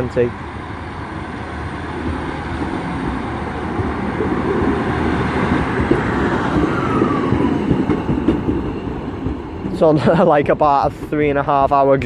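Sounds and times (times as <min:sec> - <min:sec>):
diesel train engine and wheels: 0:00.0 - 0:12.0.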